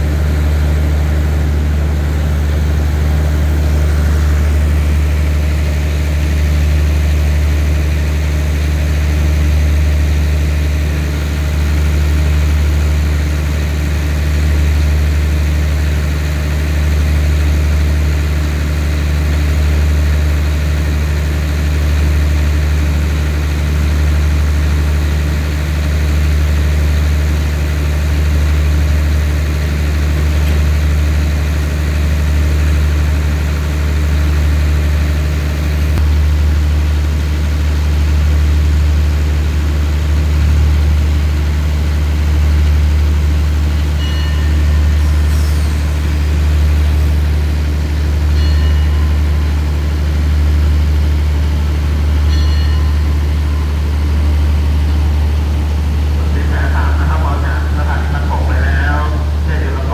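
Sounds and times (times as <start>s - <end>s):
diesel train engines idling: 0.0s - 59.9s.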